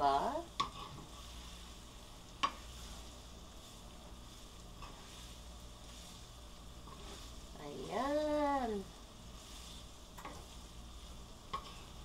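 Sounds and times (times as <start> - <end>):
pasta frying in a pan: 0.0 - 12.0.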